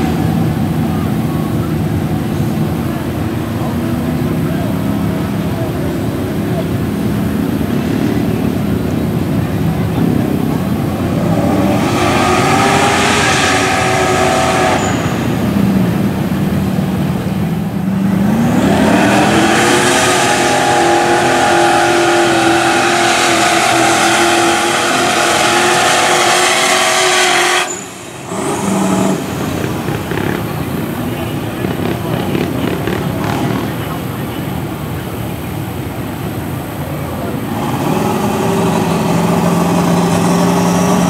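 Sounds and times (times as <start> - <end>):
tires churning through mud: 0.0 - 41.0
truck engine revving: 0.0 - 41.0.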